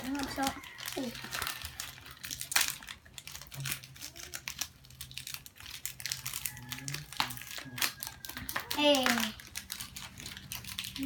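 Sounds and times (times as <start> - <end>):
plastic snack packets crinkling: 0.0 - 11.0.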